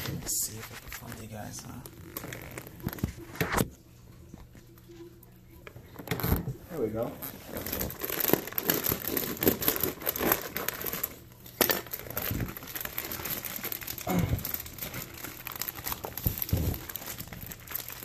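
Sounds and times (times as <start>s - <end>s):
plastic bag crinkling: 0.0s - 3.6s, 5.8s - 18.0s.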